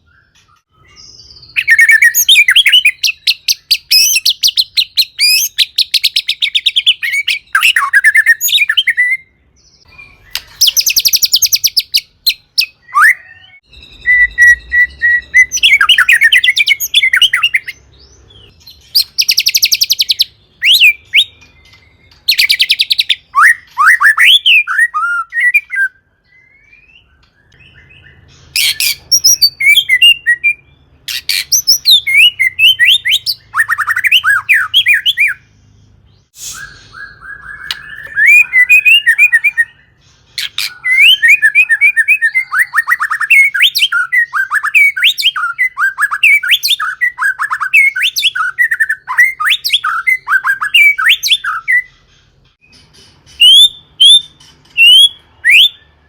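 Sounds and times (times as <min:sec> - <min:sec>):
bird singing whistled phrases: 0:00.0 - 0:17.8, 0:18.5 - 0:35.4, 0:36.3 - 0:52.0, 0:53.4 - 0:56.0.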